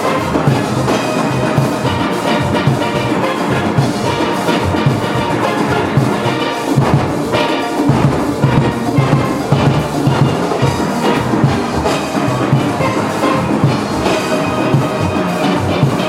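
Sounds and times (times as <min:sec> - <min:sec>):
drums and percussion: 0:00.0 - 0:16.0
steelpans playing: 0:00.0 - 0:16.0.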